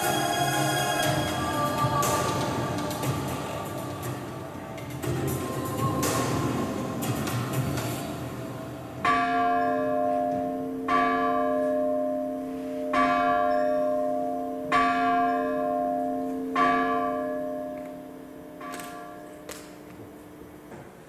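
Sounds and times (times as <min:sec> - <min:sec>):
large bell tolling: 0:00.0 - 0:20.6.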